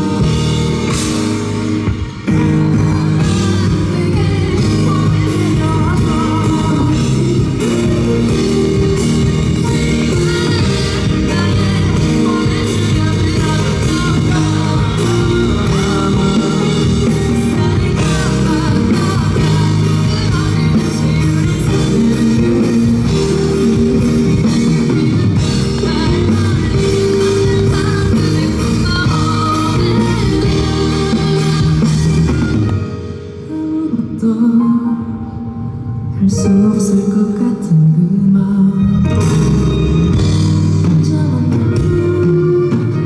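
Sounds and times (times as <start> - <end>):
live pop-rock band: 0.0 - 43.0.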